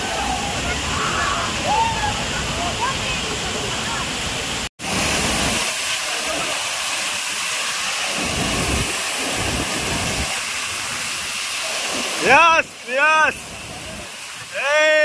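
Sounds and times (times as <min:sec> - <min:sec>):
waterfall rushing hiss: 0:00.0 - 0:15.0.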